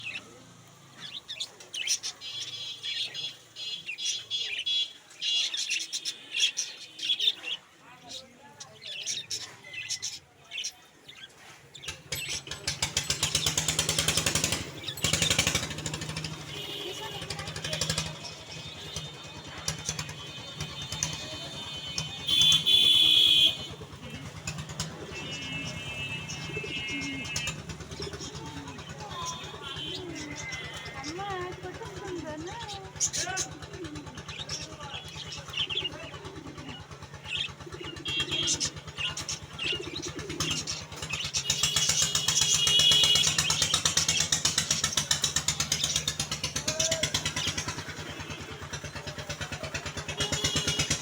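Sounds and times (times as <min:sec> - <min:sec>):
budgerigars chirping and warbling: 0:00.0 - 0:33.6, 0:34.2 - 0:51.0
low engine rumble: 0:08.4 - 0:51.0.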